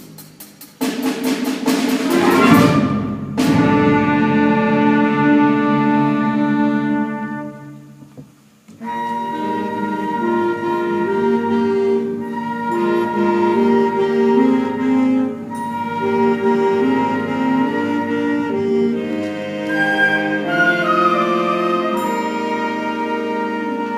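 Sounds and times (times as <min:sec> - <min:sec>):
wind band playing: 0:01.8 - 0:08.1, 0:08.8 - 0:23.9.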